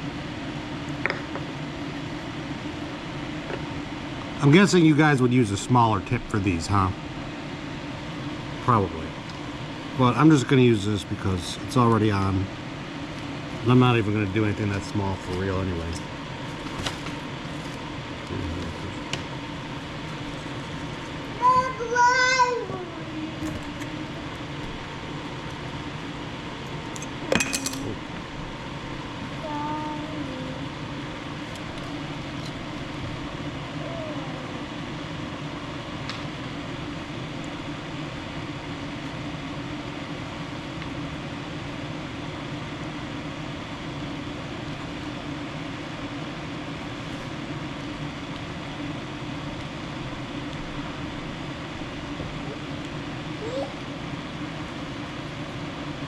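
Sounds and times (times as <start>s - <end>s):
steady hum and hiss: 0.0s - 56.0s.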